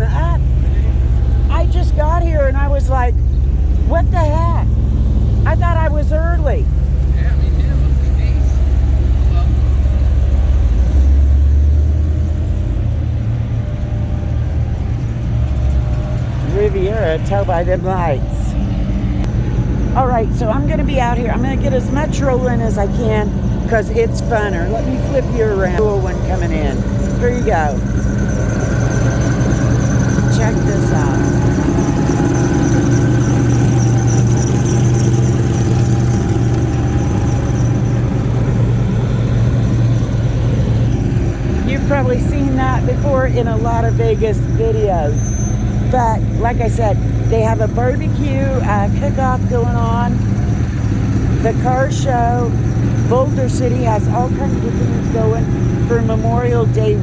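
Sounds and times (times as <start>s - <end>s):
car engine rumbling past: 0.0s - 57.0s.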